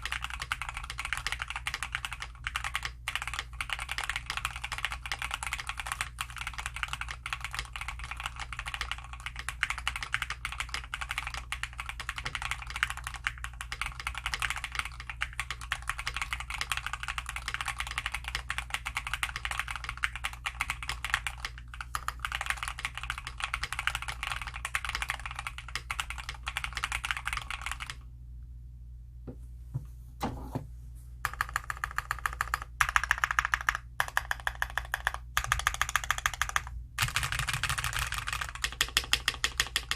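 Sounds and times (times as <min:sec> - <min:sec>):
fast mechanical keyboard typing: 0:00.0 - 0:28.0, 0:31.2 - 0:39.9.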